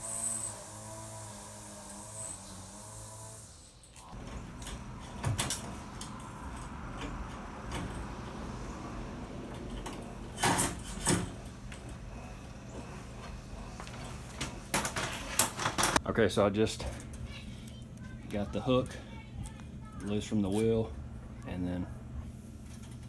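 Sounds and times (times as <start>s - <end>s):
steady low hum: 2.3s - 23.0s.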